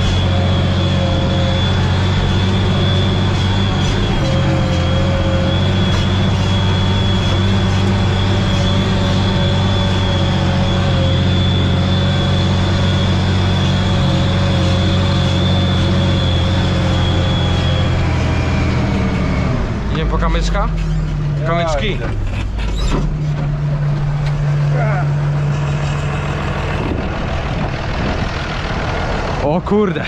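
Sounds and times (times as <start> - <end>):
tractor engine running under load: 0.0 - 30.0.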